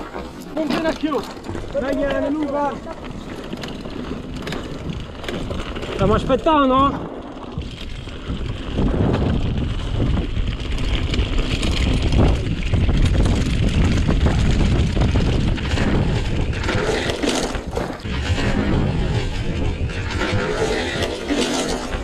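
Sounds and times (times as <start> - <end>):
bike rattling over bumps: 0.0 - 22.0
wind buffeting microphone: 0.0 - 22.0.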